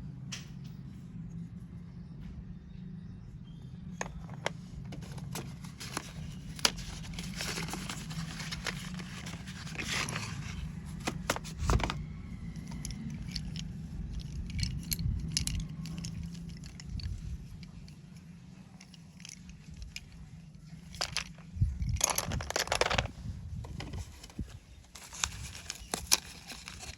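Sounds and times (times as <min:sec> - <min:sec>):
rustling and scraping: 0:03.9 - 0:26.9.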